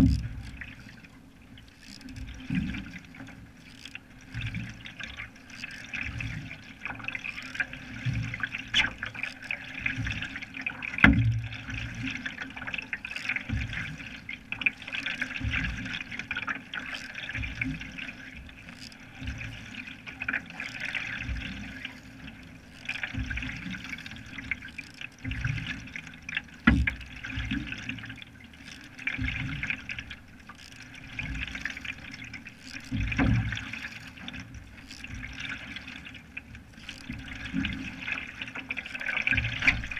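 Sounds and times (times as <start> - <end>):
paddle strokes in water: 0.0 - 39.9
water swishing past hull: 0.0 - 39.9.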